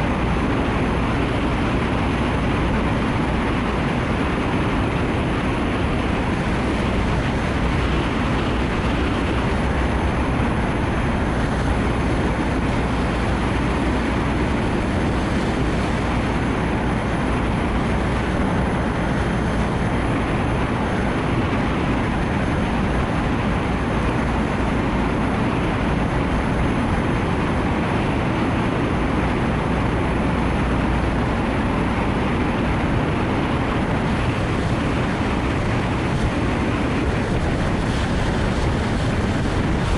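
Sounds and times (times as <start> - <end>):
heavy rain: 0.0 - 39.9
wind: 0.0 - 39.9.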